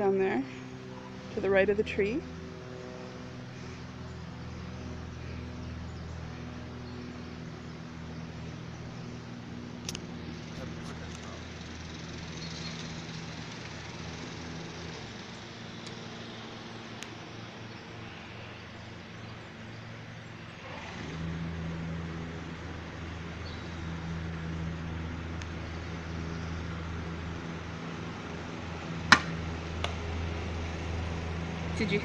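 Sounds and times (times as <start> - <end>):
motor vehicle engine humming: 0.0 - 32.0.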